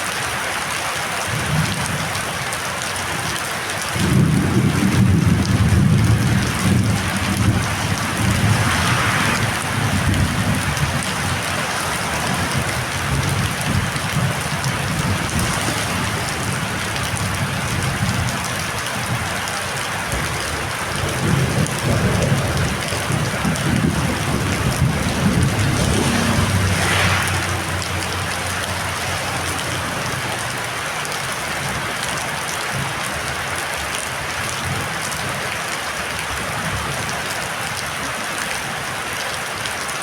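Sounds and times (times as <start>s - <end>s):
heavy rain pouring: 0.0s - 40.0s.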